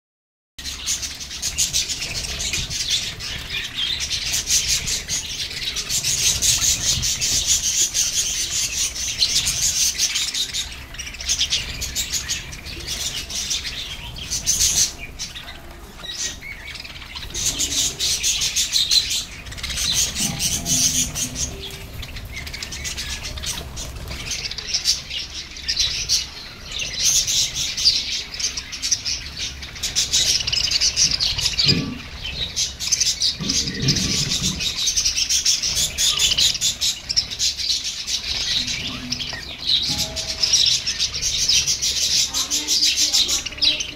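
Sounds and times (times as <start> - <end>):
budgerigars chattering: 0.6 - 43.9.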